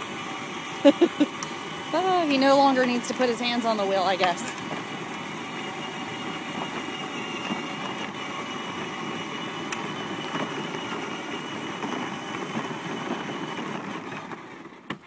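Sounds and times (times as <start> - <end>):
faint steady whine: 0.0 - 15.0
pickup truck engine rumble: 0.0 - 15.0.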